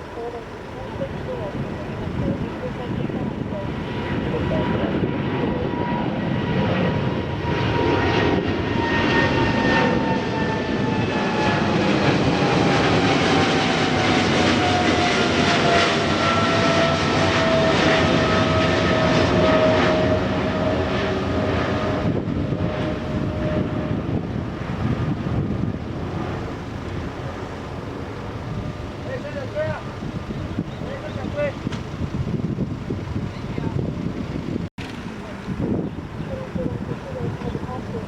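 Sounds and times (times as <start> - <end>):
jet engine roar and whine: 0.0 - 38.0.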